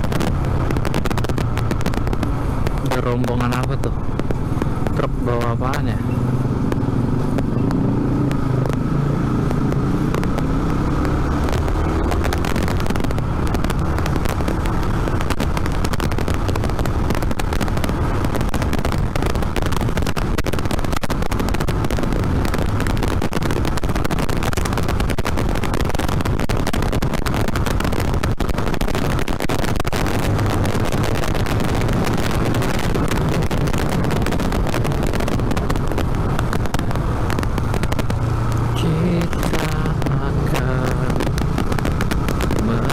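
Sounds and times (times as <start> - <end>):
motorcycle engine accelerating: 0.0 - 42.9
wind rushing over microphone: 0.0 - 42.9.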